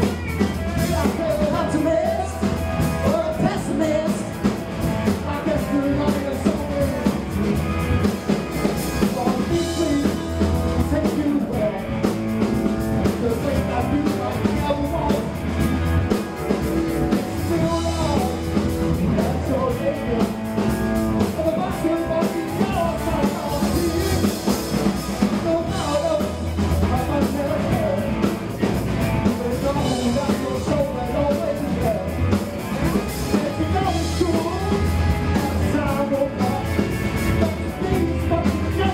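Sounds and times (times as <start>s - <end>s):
person singing: 0.0s - 7.7s, 8.4s - 12.2s, 13.0s - 15.8s, 17.1s - 38.9s
bass guitar: 0.0s - 38.9s
drum kit: 0.0s - 38.9s
electric guitars: 0.0s - 38.9s.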